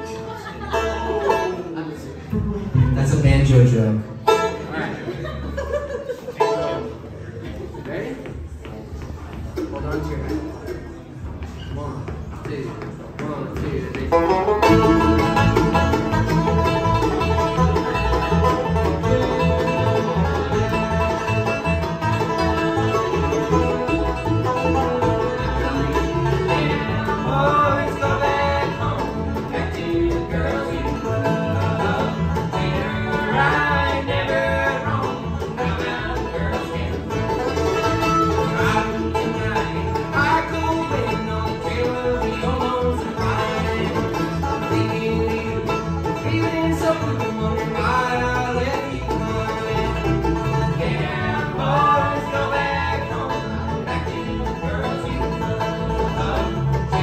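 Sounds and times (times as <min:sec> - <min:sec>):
banjo: 0:00.0 - 0:57.0
bluegrass band playing: 0:00.0 - 0:57.0.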